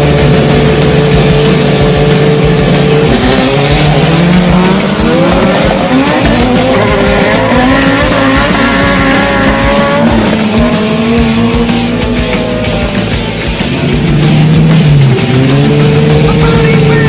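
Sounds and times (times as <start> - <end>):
drag cars accelerating: 0.0 - 17.0.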